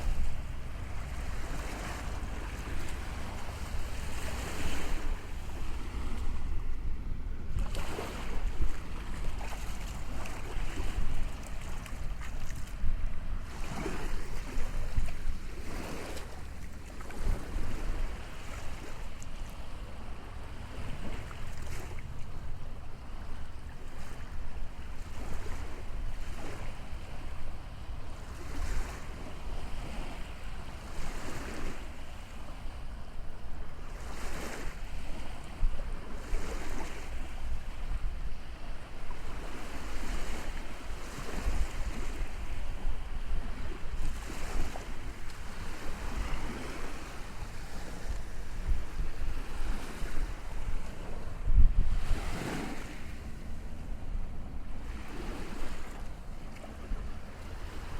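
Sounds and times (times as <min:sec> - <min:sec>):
waves breaking on shore: 0:00.0 - 0:57.9
wind buffeting microphone: 0:00.0 - 0:57.9.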